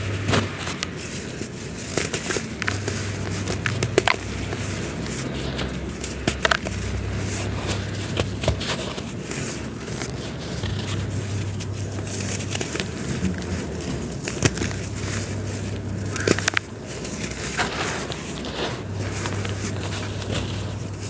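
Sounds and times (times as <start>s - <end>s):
dry material crushed by hand: 0.0s - 21.0s
low steady hum: 0.0s - 21.0s.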